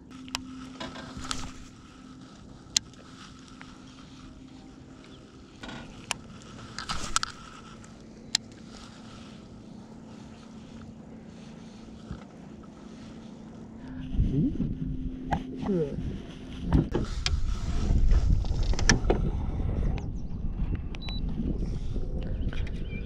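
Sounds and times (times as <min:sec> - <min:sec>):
electric boat motor humming: 0:00.0 - 0:23.0.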